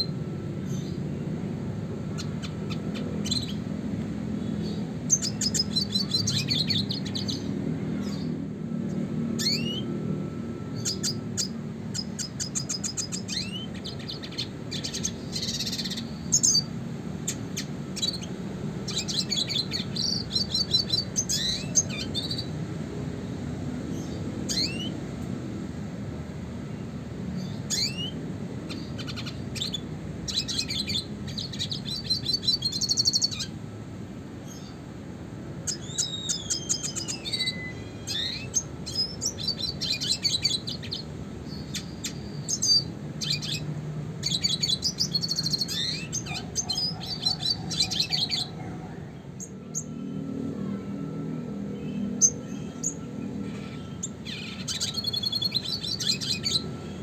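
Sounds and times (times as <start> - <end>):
bird twittering and trilling: 0.0 - 1.1, 1.7 - 3.8, 4.4 - 22.7, 23.9 - 25.1, 27.3 - 33.6, 34.4 - 34.8, 35.5 - 57.0.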